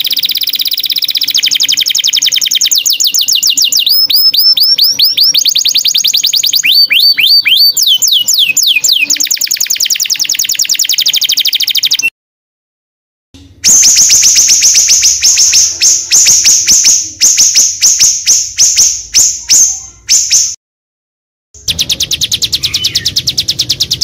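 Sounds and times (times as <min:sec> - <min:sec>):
songbird trilling and whistling: 0:00.0 - 0:12.1, 0:13.6 - 0:20.6, 0:21.6 - 0:24.0.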